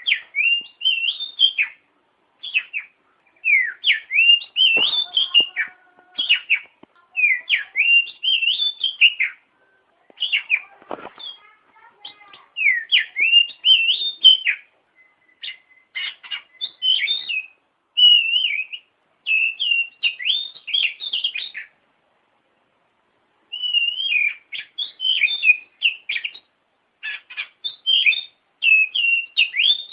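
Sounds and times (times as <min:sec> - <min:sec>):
songbird whistling and chirping: 0:00.0 - 0:01.8, 0:02.4 - 0:21.8, 0:23.5 - 0:29.9.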